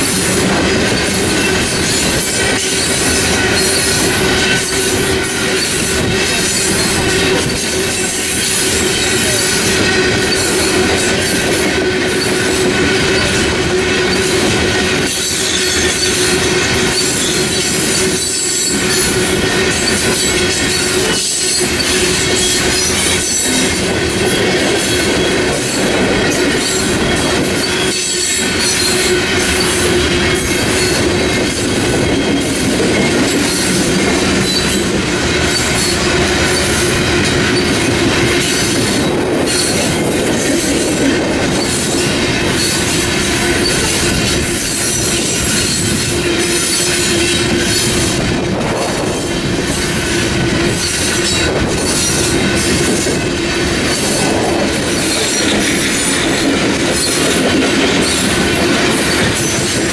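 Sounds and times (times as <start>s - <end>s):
train wheels clattering on rails: 0.0s - 59.9s
wheel squeal: 0.0s - 59.9s.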